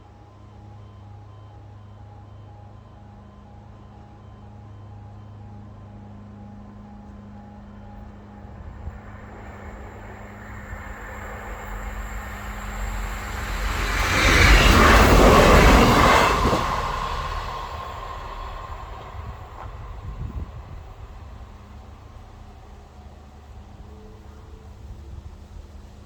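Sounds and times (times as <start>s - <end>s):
diesel train passing at speed: 2.8s - 26.0s.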